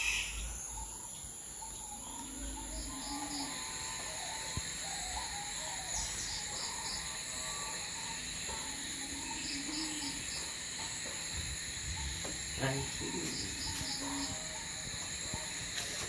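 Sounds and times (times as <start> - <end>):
crickets trilling: 0.0 - 16.0
pulsing insect chirps: 0.0 - 16.0.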